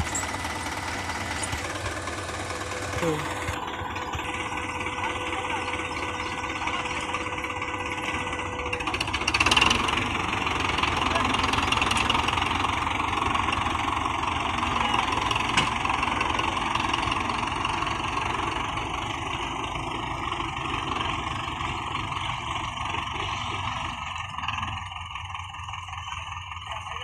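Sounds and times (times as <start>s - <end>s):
diesel tractor engines under load: 0.0s - 27.0s.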